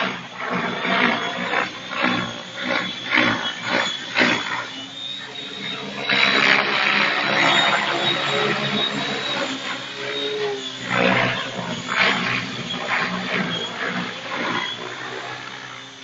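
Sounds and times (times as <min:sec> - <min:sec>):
helicopter rotor noise: 0:00.0 - 0:16.0
steady high whine: 0:00.0 - 0:16.0.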